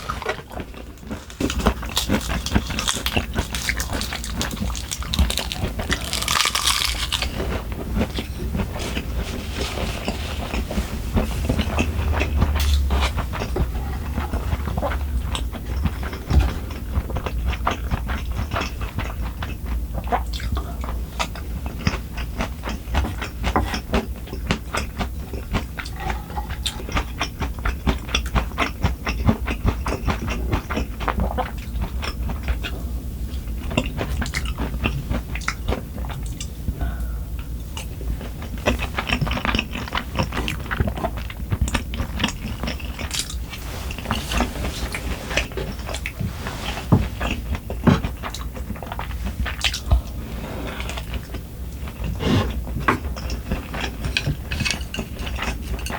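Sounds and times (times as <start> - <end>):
chewing and crunching food: 0.0 - 55.9
constant low hum: 0.0 - 55.9.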